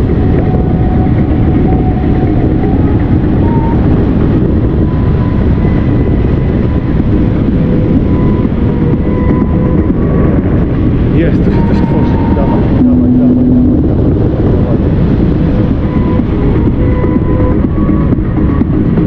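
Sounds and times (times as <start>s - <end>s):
variometer tones: 0.0s - 19.0s
wind rushing over microphone: 0.0s - 19.0s.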